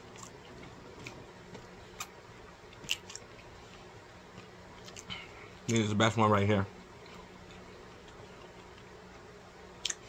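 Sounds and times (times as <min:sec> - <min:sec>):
man chewing food: 0:00.0 - 0:05.6, 0:06.9 - 0:10.0.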